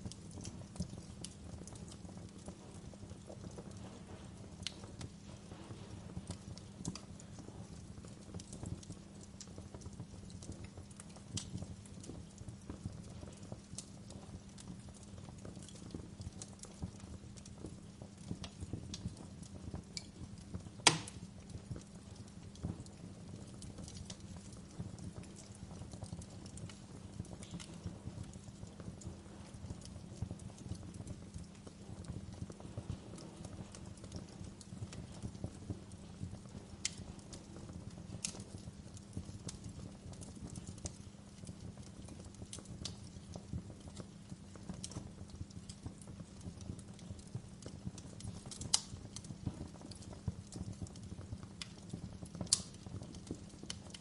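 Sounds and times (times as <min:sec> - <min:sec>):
fire crackling and popping: 0:00.0 - 0:54.0
fireplace fire burning: 0:00.0 - 0:54.0.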